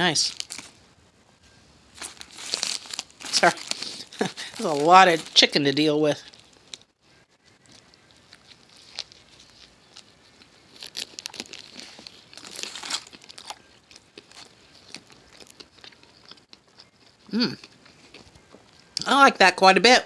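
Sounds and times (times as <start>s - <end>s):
person chewing food: 2.0s - 5.4s, 6.2s - 19.0s.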